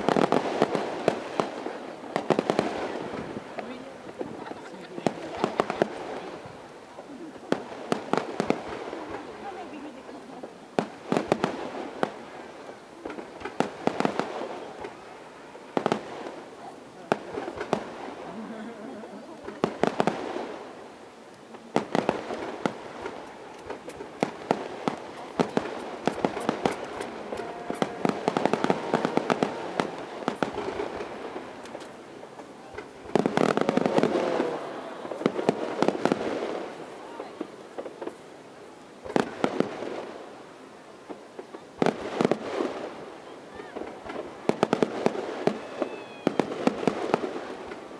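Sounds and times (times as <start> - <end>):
loud firework bangs: 0.0 - 6.4, 10.8 - 18.3, 19.4 - 20.9, 21.7 - 38.3, 39.0 - 40.3, 41.8 - 47.9
fireworks crackling and popping: 0.0 - 47.9.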